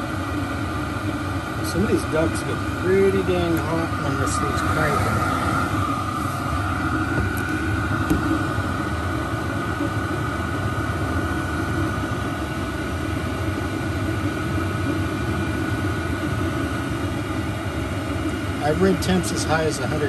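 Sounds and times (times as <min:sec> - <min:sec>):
air heater blower rumbling: 0:00.0 - 0:20.0
steady whine: 0:00.0 - 0:20.0.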